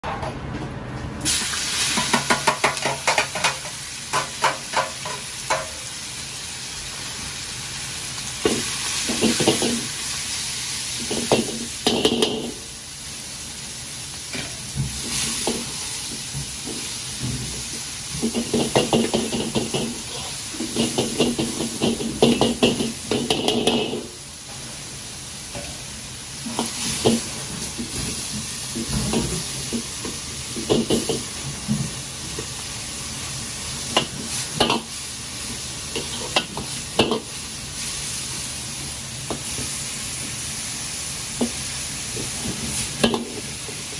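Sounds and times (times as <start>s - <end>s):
meat sizzling in a wok: 1.2s - 43.9s.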